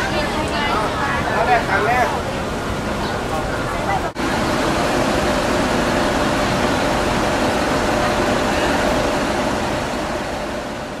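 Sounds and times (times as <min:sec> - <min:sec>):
bus engines idling: 0:00.0 - 0:11.0.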